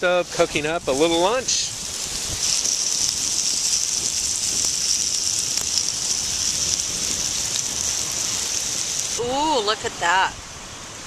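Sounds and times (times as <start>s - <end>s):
meat sizzling: 0.0s - 10.3s
wood fire crackles: 0.0s - 11.0s.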